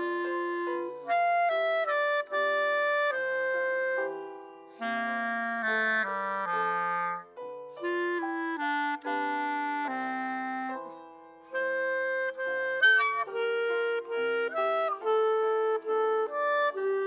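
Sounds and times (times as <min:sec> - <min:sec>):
clarinet melody: 0:00.0 - 0:17.0
piano accompaniment: 0:00.0 - 0:17.0.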